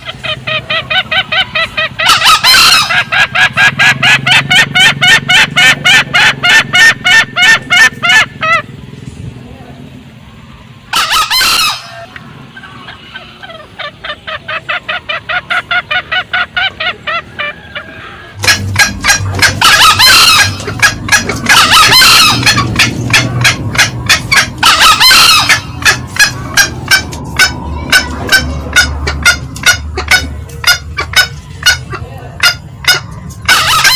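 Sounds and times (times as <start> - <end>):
junglefowl cackling clucks: 0.0 - 8.7, 10.8 - 33.9
junglefowl loud call: 0.0 - 8.7, 10.9 - 33.9.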